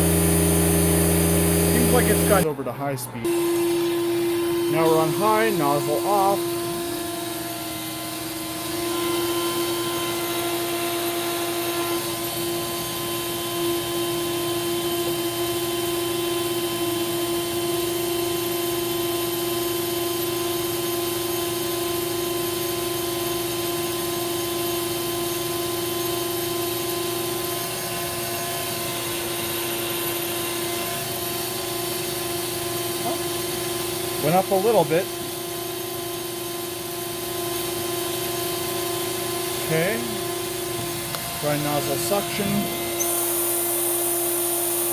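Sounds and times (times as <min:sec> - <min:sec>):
vacuum cleaner running: 0:00.0 - 0:02.6, 0:03.2 - 0:44.9.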